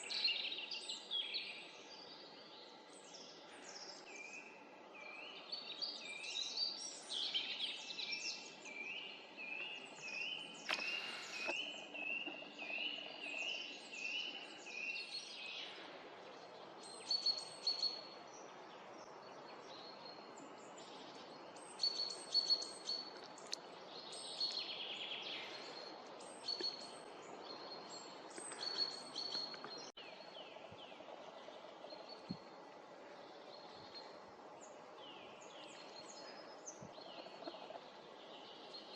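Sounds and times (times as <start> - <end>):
faint background hiss: 0.0 - 38.9
birds singing and calling: 3.0 - 15.8, 16.6 - 32.4, 33.4 - 38.9.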